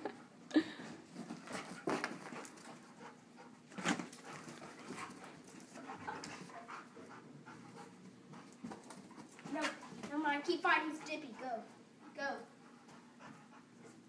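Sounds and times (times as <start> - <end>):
dog panting: 0.1 - 14.0.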